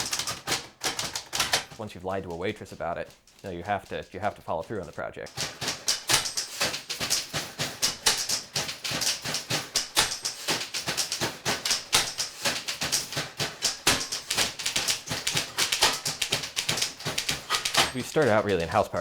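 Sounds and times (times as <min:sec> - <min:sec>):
typewriter keystrokes clattering: 0:00.0 - 0:19.0.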